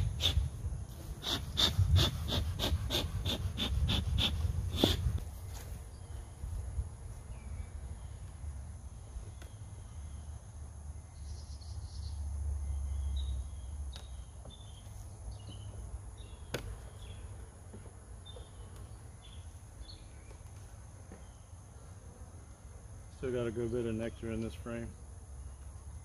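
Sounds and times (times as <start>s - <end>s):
high drone of insects: 0.0s - 26.0s.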